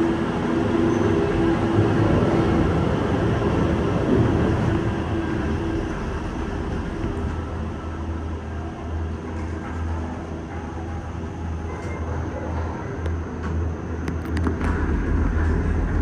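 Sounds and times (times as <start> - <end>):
gondola lift machinery running: 0.0 - 16.0.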